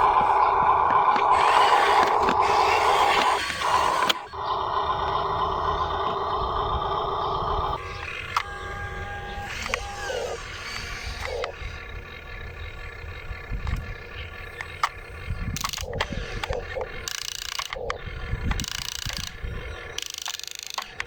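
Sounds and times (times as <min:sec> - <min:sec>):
small electric motors whirring: 0:00.0 - 0:21.0.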